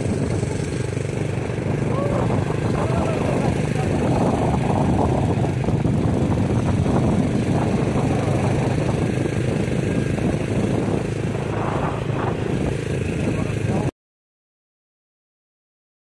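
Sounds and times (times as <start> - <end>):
vehicle engine running: 0.0 - 13.9
wind noise on microphone: 0.0 - 13.9.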